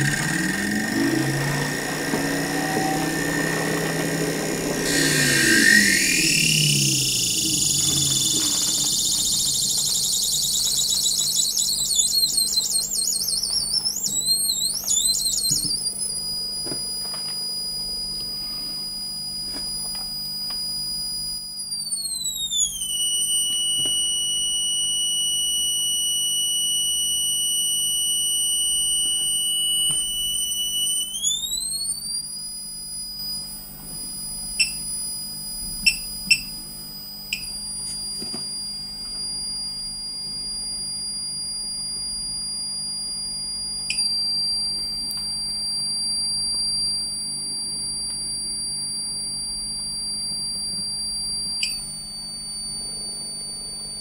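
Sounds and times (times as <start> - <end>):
high-pitched electronic whine: 0.0 - 54.0.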